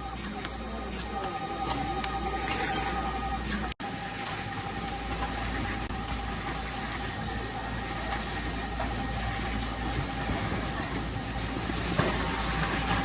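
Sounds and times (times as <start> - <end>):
faint machine whine: 0.0 - 13.0
packaging machinery humming: 0.0 - 13.0.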